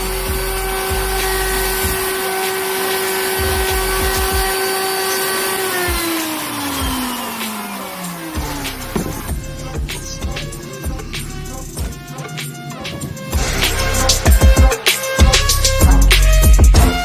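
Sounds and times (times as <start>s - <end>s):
router spindle whining and spinning down: 0.0s - 17.0s.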